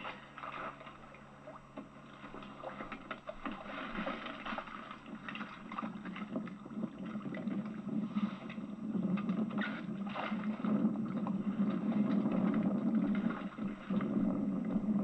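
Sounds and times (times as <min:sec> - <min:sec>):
low steady hum: 0:00.0 - 0:15.0
water splashing: 0:00.0 - 0:15.0.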